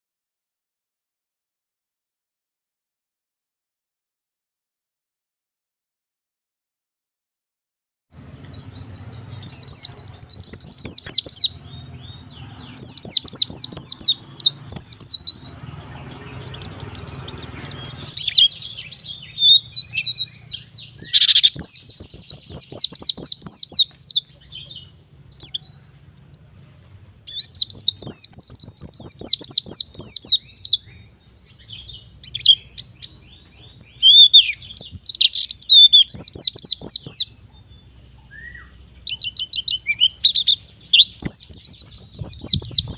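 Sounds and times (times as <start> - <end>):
bird chattering song: 8.2 - 42.9.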